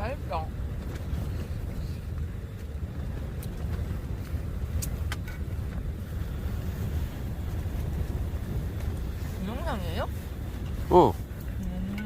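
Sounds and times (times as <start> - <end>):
strong wind rumbling: 0.0 - 12.0.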